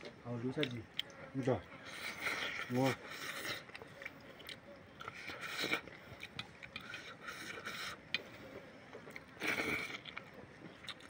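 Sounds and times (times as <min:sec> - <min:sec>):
mouth eating noise: 0:00.6 - 0:08.3, 0:09.0 - 0:11.0.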